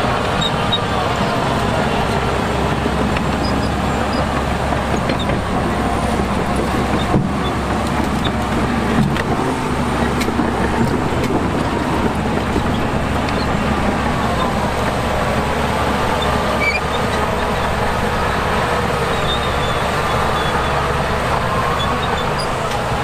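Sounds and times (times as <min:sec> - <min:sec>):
diesel machinery running: 0:00.0 - 0:23.0.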